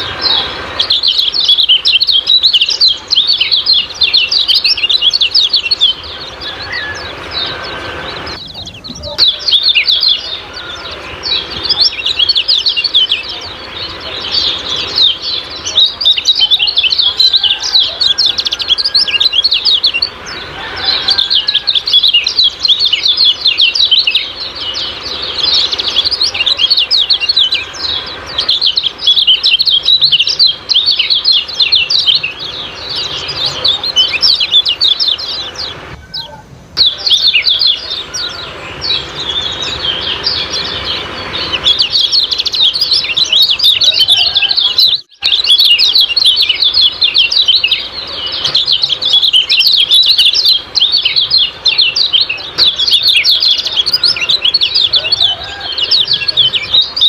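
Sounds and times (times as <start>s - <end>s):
bird chattering with high chirps: 0.0s - 57.0s.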